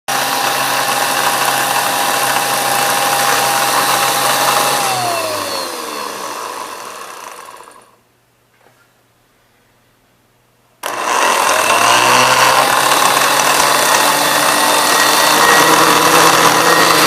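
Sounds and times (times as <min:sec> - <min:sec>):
blender motor whining: 0:00.1 - 0:08.0, 0:10.8 - 0:17.0.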